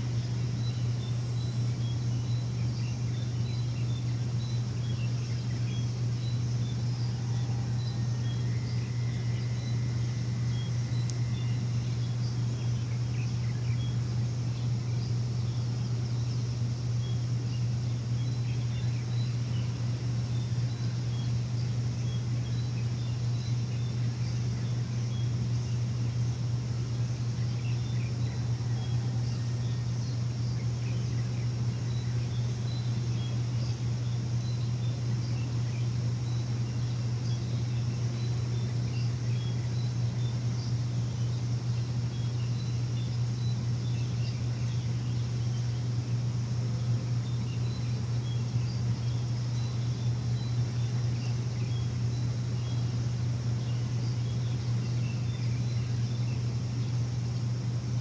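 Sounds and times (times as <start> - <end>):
faint bird chirps: 0.0 - 58.0
steady low machine hum: 0.0 - 58.0.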